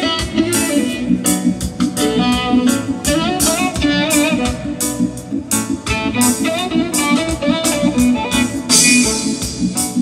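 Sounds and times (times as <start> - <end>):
guitar with bending notes: 0.0 - 10.0
live reggae band playing: 0.0 - 10.0.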